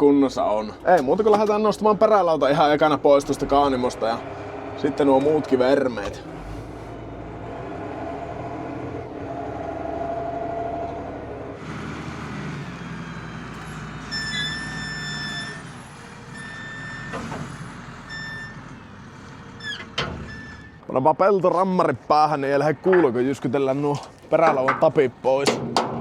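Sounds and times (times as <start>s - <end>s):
diesel engine running: 0.0s - 20.8s.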